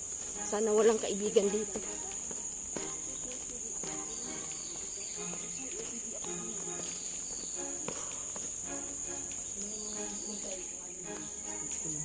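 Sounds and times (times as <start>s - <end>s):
shrill insect drone: 0.0s - 12.0s.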